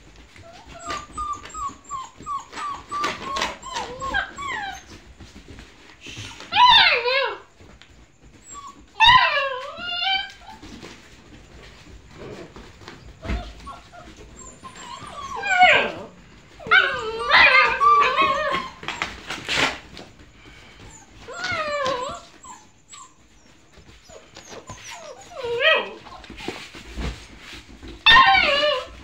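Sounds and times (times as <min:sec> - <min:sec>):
puppies whining: 0:00.1 - 0:29.0.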